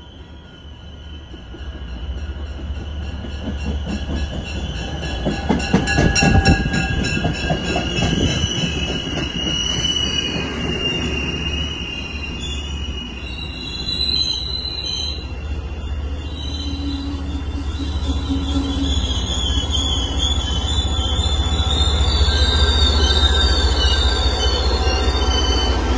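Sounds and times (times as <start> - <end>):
train high-pitched squeal: 0.0 - 25.9.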